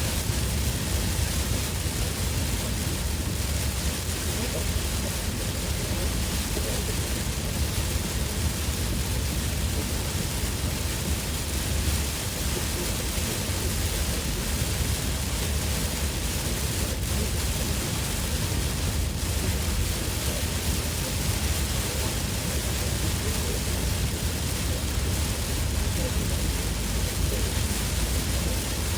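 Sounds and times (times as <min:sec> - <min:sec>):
heavy rain pelting a car: 0:00.0 - 0:28.9
low road rumble: 0:00.0 - 0:28.9.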